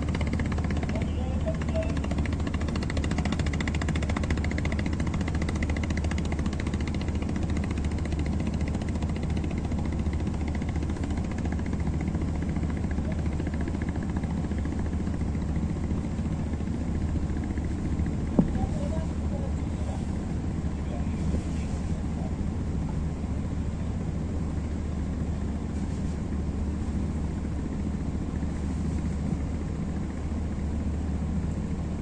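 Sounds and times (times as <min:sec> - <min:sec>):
boat diesel engine chugging: 0:00.0 - 0:32.0.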